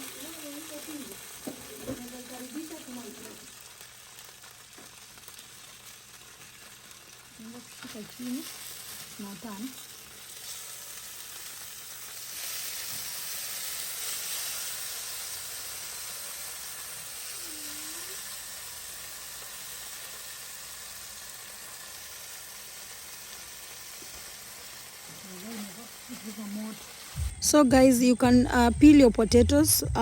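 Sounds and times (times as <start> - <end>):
food sizzling in hot fat: 0.0 - 30.0.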